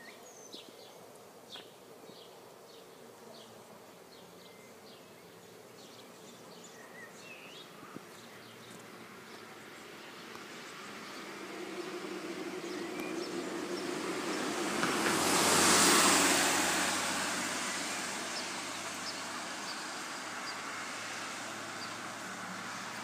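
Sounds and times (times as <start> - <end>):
faint insect buzz: 0.0 - 23.0
small birds chirping: 0.0 - 23.0.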